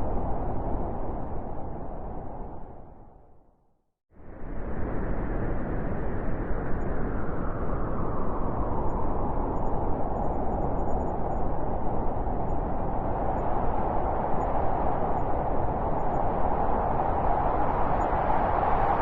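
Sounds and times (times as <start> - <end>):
blizzard wind howling: 0.0 - 3.5, 4.2 - 19.0.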